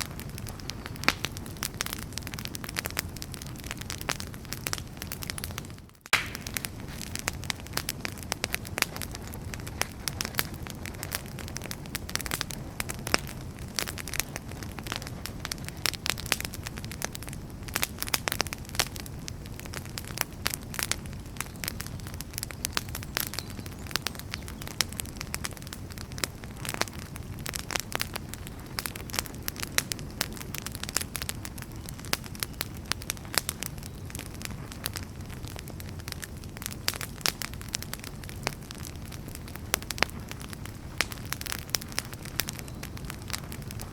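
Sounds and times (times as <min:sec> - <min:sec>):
firewood crackling and popping: 0:00.0 - 0:43.9
low rumble of flames: 0:00.0 - 0:43.9.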